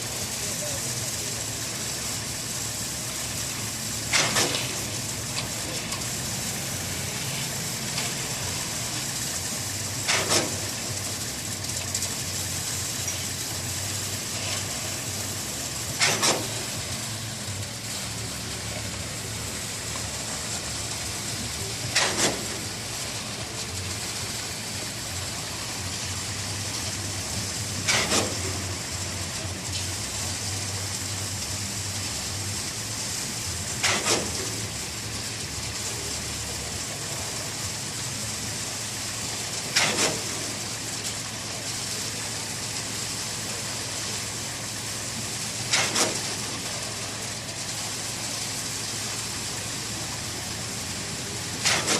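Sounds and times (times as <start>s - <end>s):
steady background noise: 0.0s - 51.9s.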